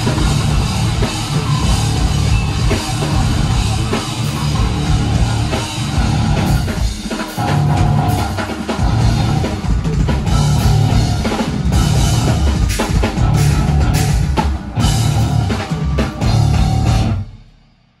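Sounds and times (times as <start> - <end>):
rock band playing hard riffs: 0.0 - 17.6.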